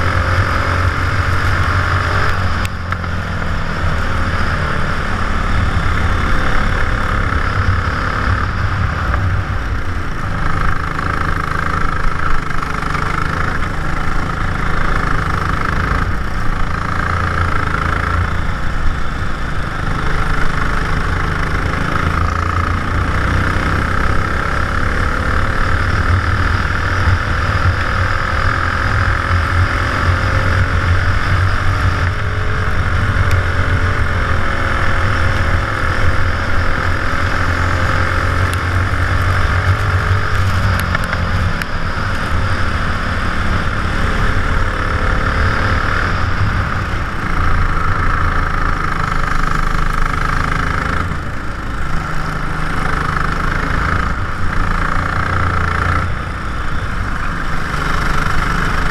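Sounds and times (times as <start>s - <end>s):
kart engine running at speed: 0.0s - 58.9s.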